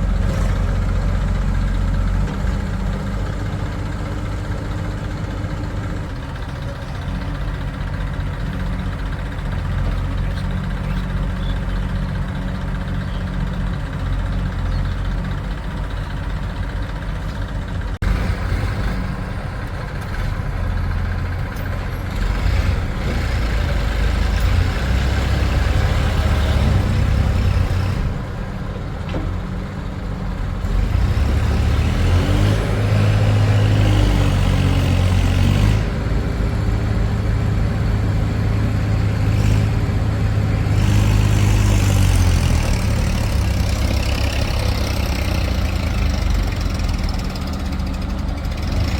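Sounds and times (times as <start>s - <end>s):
heavy diesel engines running: 0.0s - 48.9s.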